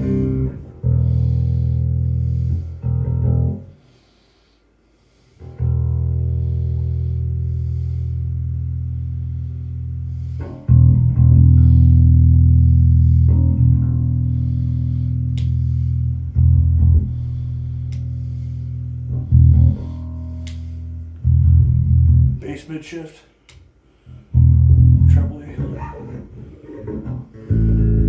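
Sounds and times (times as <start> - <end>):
electric bass notes plucked: 0.0 - 3.7, 5.5 - 22.4, 24.3 - 28.0.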